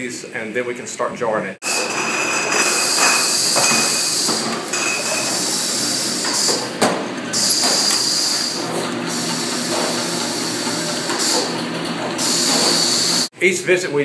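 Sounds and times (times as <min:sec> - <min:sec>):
conveyor hiss and whine: 0:00.0 - 0:14.0.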